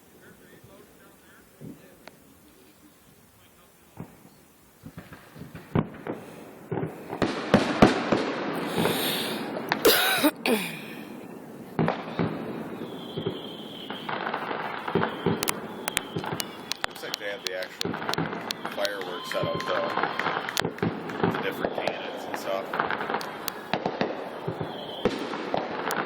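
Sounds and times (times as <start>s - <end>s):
fireworks bangs and crackling: 3.9s - 10.0s, 11.0s - 26.0s.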